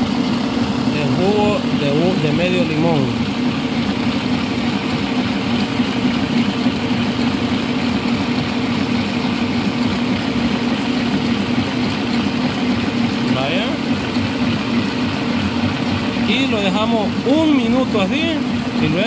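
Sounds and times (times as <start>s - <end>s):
stand mixer whisking batter: 0.0s - 19.0s.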